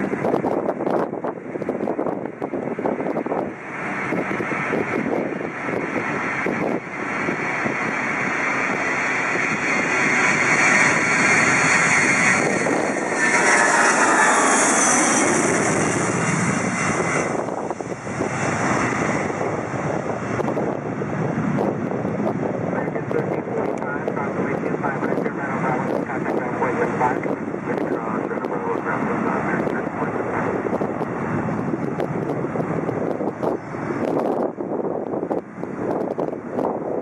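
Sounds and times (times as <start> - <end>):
jet airliner taking off: 0.0 - 37.0.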